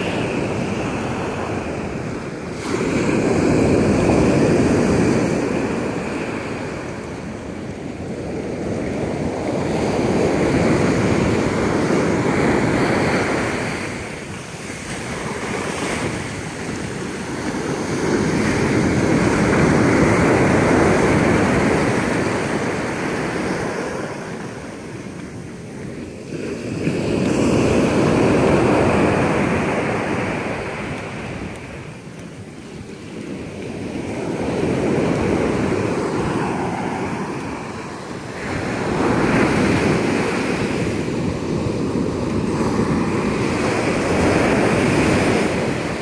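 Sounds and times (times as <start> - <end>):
ocean surf breaking on beach: 0.0 - 46.0.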